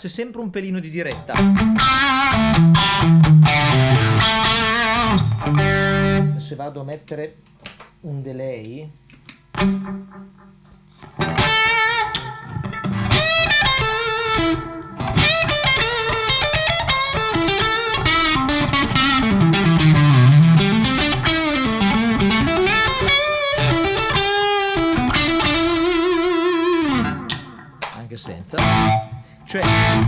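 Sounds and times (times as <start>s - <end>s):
distorted electric guitar lead: 1.1s - 6.5s, 9.5s - 30.0s.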